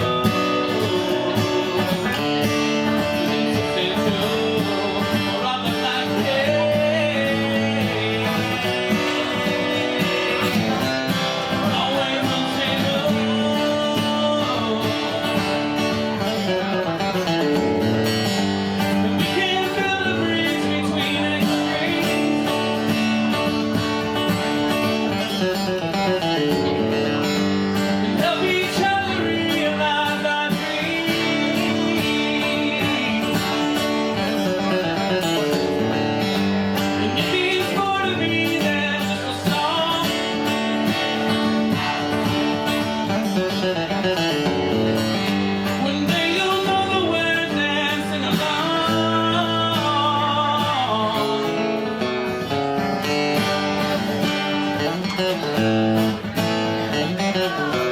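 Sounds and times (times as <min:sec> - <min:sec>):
country blues band with acoustic guitar: 0:00.0 - 0:57.9.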